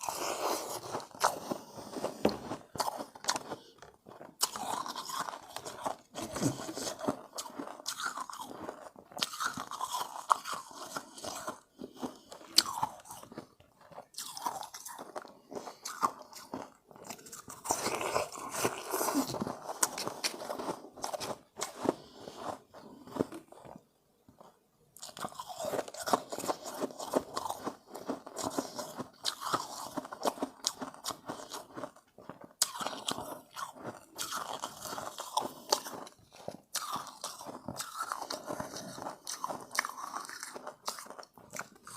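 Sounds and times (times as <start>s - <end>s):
crunching and chewing ice: 0.0s - 41.9s.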